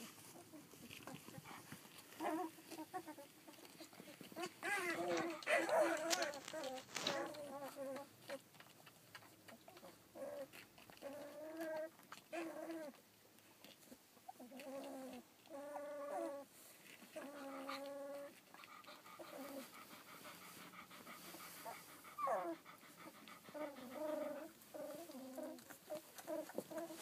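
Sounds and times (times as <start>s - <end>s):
puppies whining: 0.3s - 8.4s, 9.7s - 13.0s, 14.3s - 27.0s.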